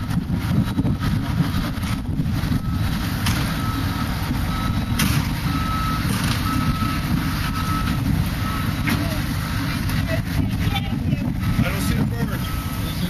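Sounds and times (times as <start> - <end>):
vehicle reversing alarm beeping: 0.0 - 1.6, 2.5 - 13.0
steady low rumble: 0.0 - 13.0.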